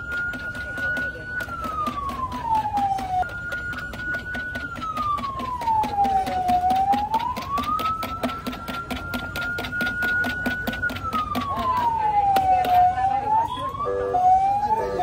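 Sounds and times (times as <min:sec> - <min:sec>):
vehicle siren wailing: 0:00.0 - 0:15.0.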